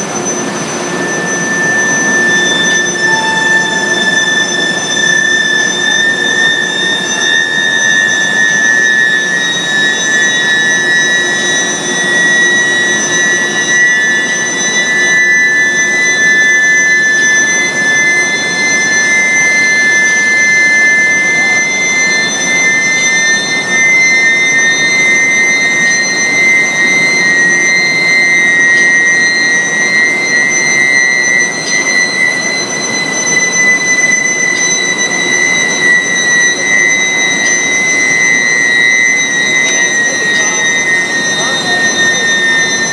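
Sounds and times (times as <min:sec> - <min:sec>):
induction heater high-pitched whine: 0:00.0 - 0:42.9.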